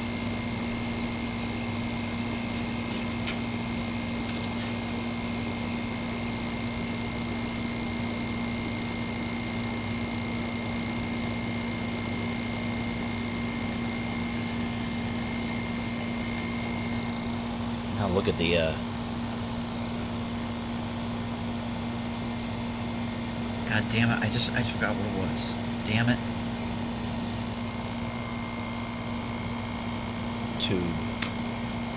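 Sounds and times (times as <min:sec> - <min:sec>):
air conditioner humming: 0:00.0 - 0:31.9.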